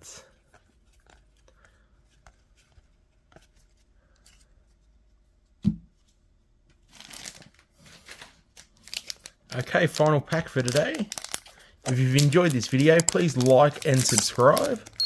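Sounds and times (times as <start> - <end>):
paper cards rustling: 0.3 - 4.9, 6.9 - 15.0.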